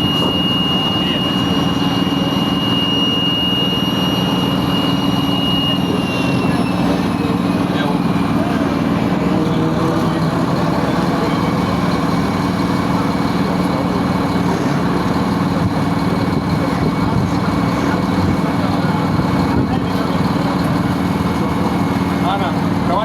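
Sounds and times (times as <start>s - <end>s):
large diesel engine rumbling: 0.0s - 23.0s.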